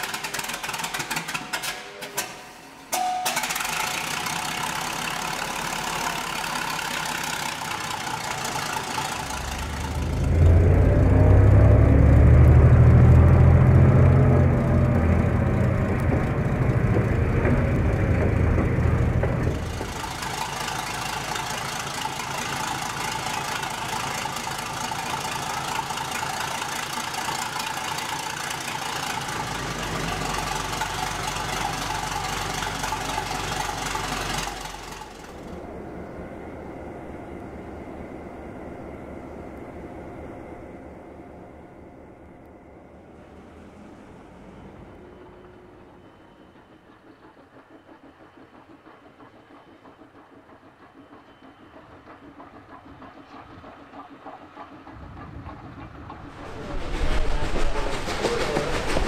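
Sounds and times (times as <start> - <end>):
engine running with knocking: 0.0 - 1.8, 3.6 - 35.7, 45.4 - 59.0.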